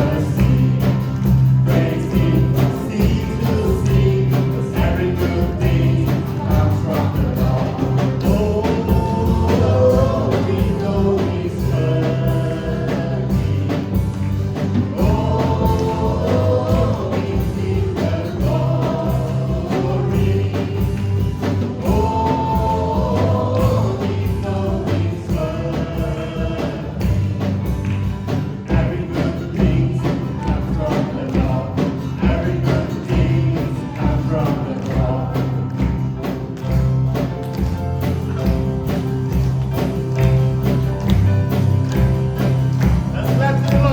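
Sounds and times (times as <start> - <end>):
group of people singing: 0.0 - 37.3, 38.4 - 43.9
band with drums and bass: 0.0 - 43.9.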